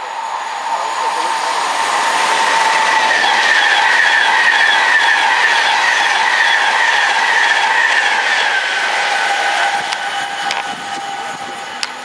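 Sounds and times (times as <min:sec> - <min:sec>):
train rushing past: 0:00.0 - 0:12.0
train whine dropping in pitch: 0:00.0 - 0:12.0.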